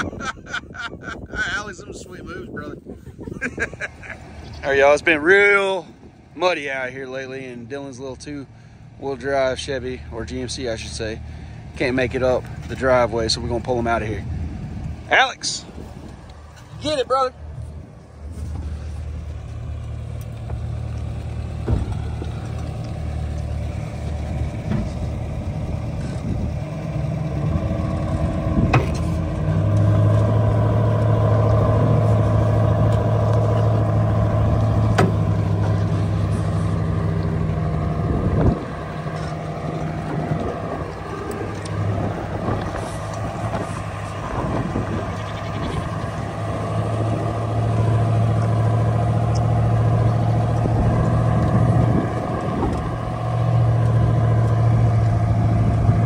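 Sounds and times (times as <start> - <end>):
truck engine under load: 0.0 - 56.0.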